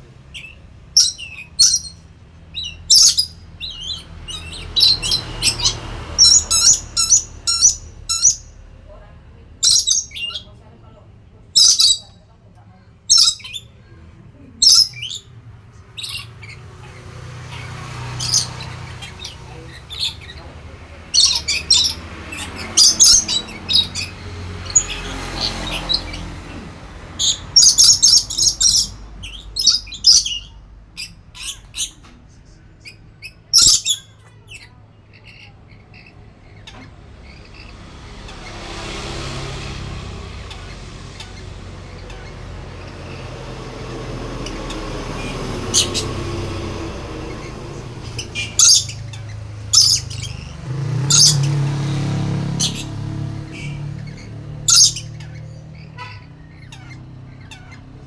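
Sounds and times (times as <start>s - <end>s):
parrot squawking: 0.2s - 8.7s, 9.6s - 10.6s, 11.6s - 12.2s, 13.1s - 13.8s, 14.6s - 58.0s.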